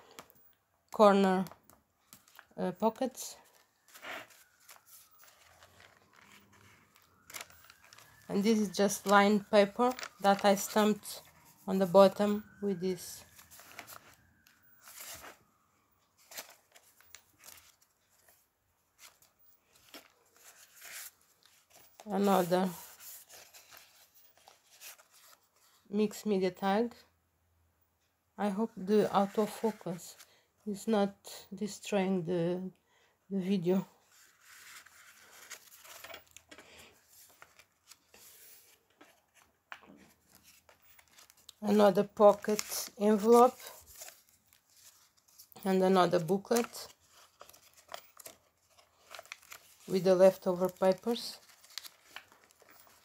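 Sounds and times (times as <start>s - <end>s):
paper pages rustling: 1.4s - 25.9s, 29.0s - 30.3s, 34.0s - 53.0s.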